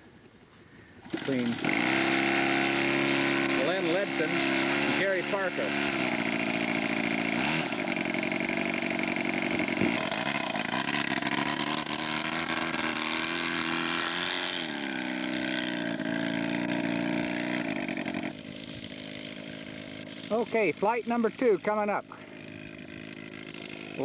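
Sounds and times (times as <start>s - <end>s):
model airplane engine running: 0.9s - 24.0s.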